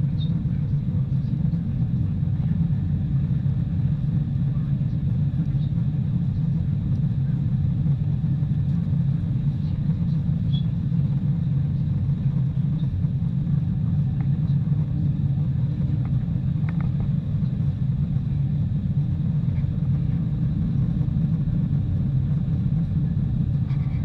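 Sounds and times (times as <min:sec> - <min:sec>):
airplane low rumble: 0:00.0 - 0:24.0.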